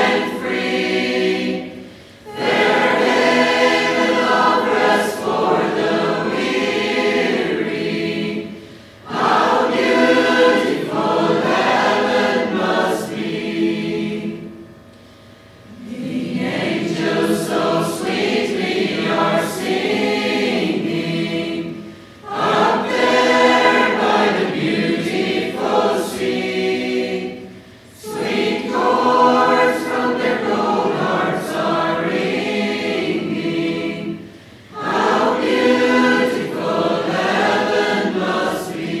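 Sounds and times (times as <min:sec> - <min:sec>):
choir singing a hymn: 0:00.0 - 0:14.8, 0:15.7 - 0:39.0.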